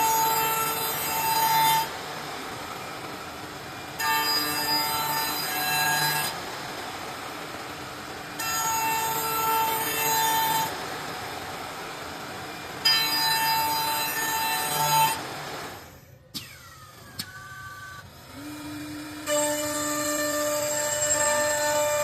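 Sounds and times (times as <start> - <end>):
lathe cutting wood with whine: 0.0 - 22.0.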